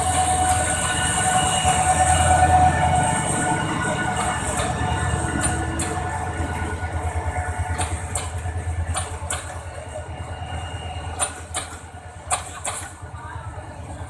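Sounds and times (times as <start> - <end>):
diesel train engine rumbling: 0.0 - 14.0.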